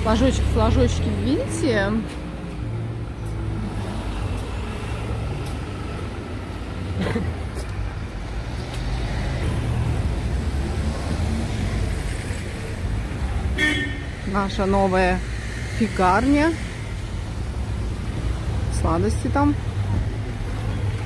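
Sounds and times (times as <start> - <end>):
cars passing: 0.0 - 21.0.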